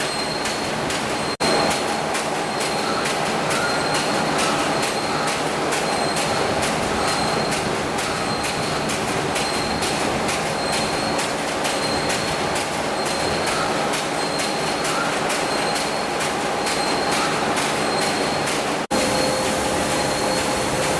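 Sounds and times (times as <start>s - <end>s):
metal slitting machine running: 0.0s - 20.9s.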